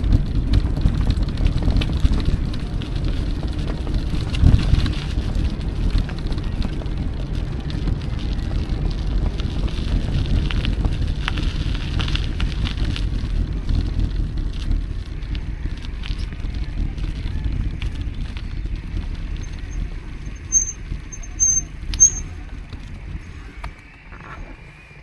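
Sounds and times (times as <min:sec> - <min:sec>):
wind buffeting microphone: 0:00.0 - 0:23.5
electric bike rolling on trail: 0:00.0 - 0:25.0.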